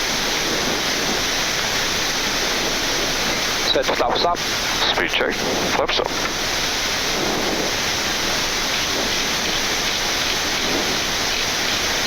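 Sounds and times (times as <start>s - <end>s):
airliner cockpit rushing noise: 0.0s - 12.0s.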